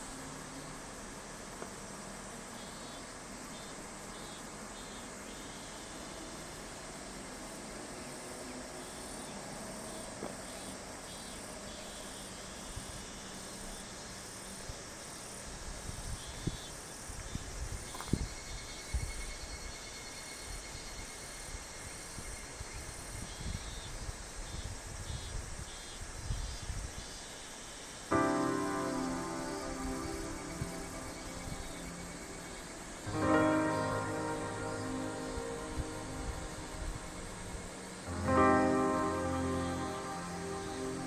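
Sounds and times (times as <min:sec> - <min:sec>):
cicadas calling in pulsed phrases: 0:00.0 - 0:41.0
steady insect hiss: 0:00.0 - 0:41.0.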